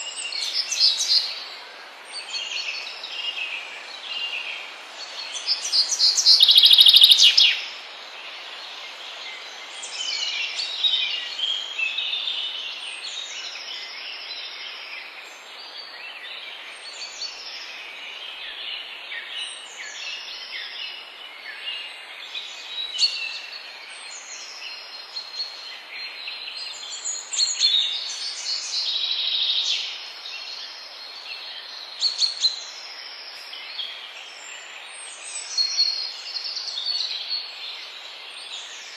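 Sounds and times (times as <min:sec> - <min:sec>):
background hiss: 0:00.0 - 0:38.9
birds singing and calling: 0:00.0 - 0:38.9.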